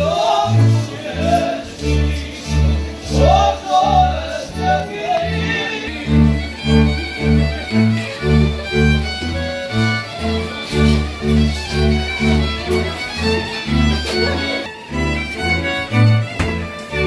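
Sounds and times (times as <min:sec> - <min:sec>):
bass line: 0:00.0 - 0:17.0
fiddle melody: 0:00.0 - 0:17.0.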